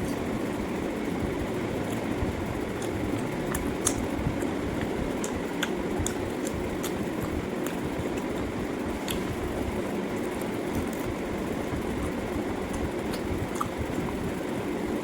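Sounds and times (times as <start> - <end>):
steady background noise: 0.0 - 15.0
wet chewing and lip-smacking: 1.8 - 14.3.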